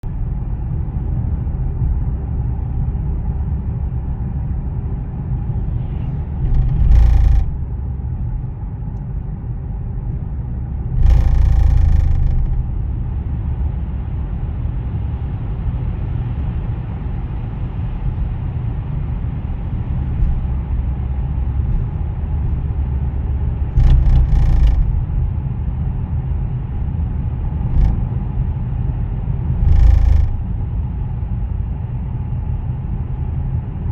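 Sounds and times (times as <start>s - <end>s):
car road rumble: 0.0s - 33.9s.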